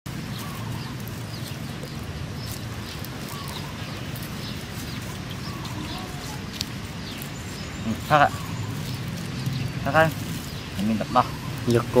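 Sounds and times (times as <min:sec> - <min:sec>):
high bird chirps: 0:00.1 - 0:12.0.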